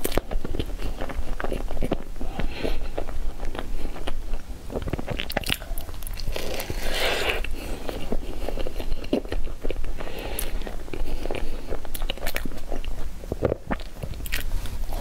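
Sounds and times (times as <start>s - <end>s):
person chewing with wet smacks: 0.0s - 15.0s.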